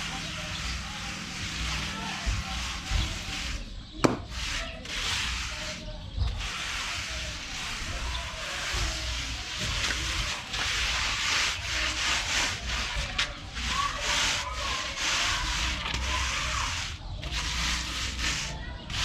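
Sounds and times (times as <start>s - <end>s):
hand tool scraping concrete: 0.0s - 19.0s.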